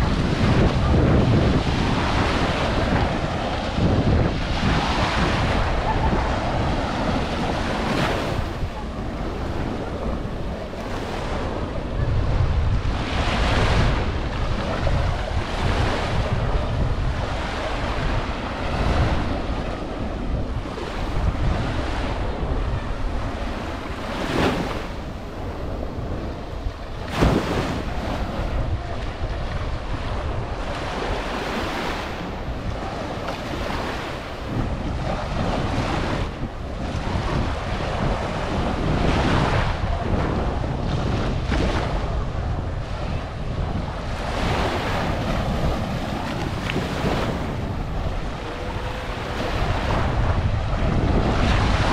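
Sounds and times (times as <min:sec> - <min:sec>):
small waves breaking on sand: 0:00.0 - 0:51.9
wind buffeting microphone: 0:00.0 - 0:51.9.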